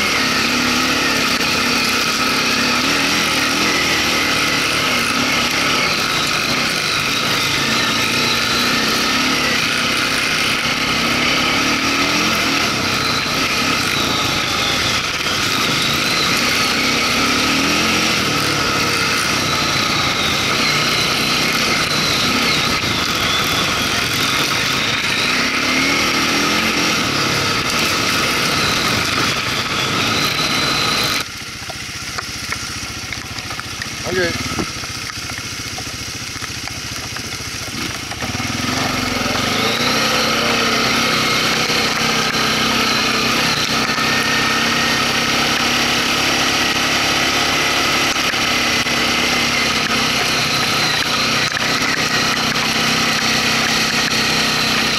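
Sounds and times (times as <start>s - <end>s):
quad bike engine revving: 0.0s - 54.9s.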